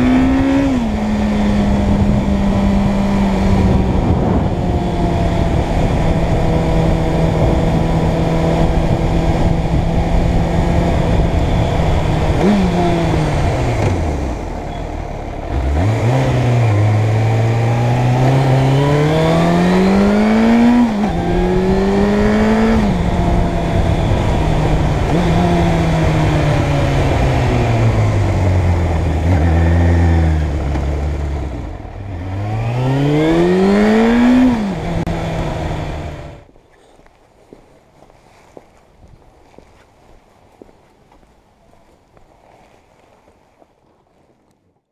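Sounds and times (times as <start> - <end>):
motorcycle engine revving: 0.0 - 36.5.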